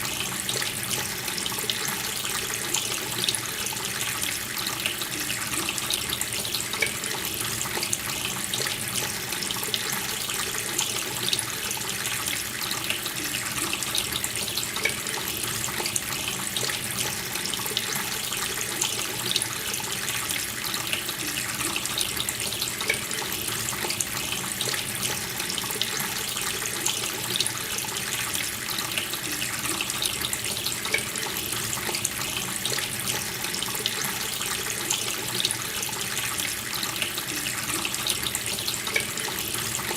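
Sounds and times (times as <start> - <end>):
tap water splashing into sink: 0.0 - 39.9.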